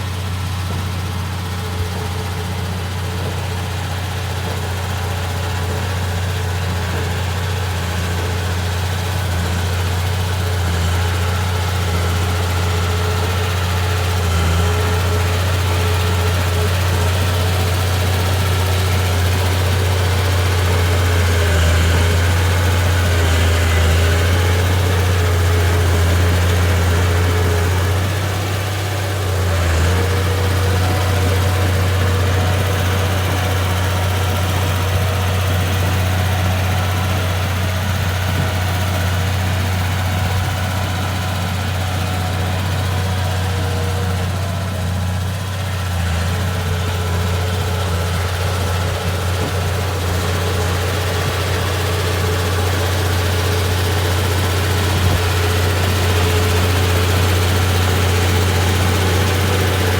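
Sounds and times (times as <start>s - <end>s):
bulldozer diesel engine idling: 0.0s - 59.9s.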